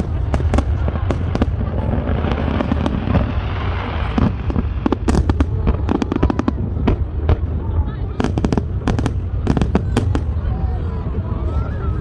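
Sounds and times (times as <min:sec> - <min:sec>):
fireworks bursting with sharp bangs: 0:00.0 - 0:11.1.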